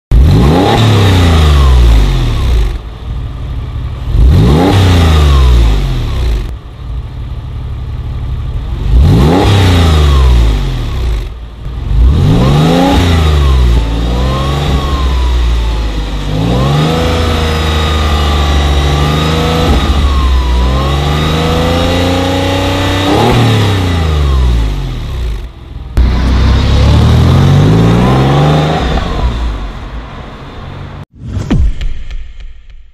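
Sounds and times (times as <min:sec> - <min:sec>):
car exhaust revving: 0:00.1 - 0:31.0.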